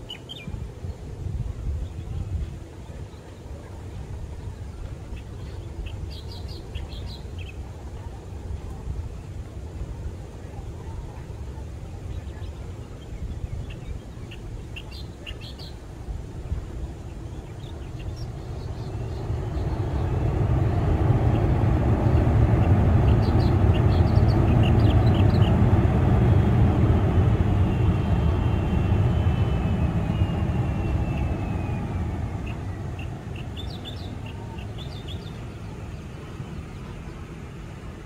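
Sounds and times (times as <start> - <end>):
birds chirping: 0.0 - 1.1, 1.8 - 8.2, 10.5 - 37.8
jet engines rolling on runway: 0.0 - 38.0.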